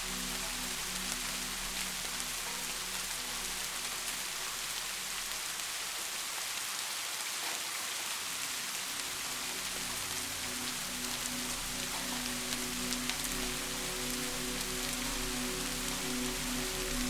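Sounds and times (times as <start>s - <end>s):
steady rainfall hiss: 0.0s - 17.0s.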